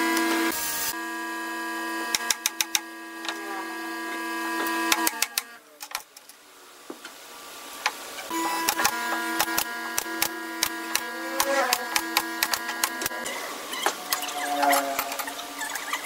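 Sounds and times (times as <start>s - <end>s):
machine hum: 0.0s - 5.7s, 7.5s - 16.0s.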